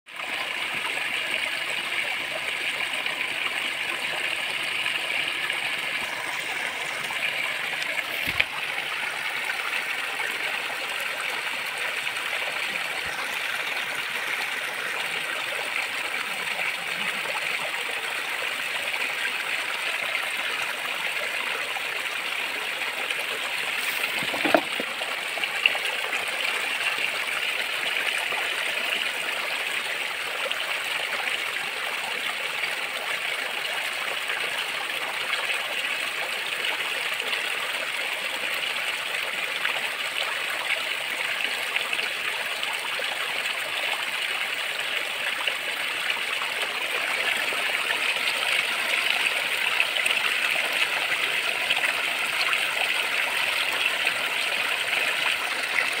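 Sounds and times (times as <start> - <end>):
stream rushing over stones: 0.1 - 56.0.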